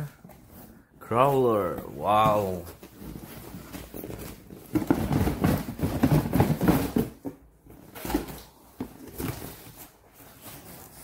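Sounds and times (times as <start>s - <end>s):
cardboard scraping and rustling: 0.0s - 11.0s.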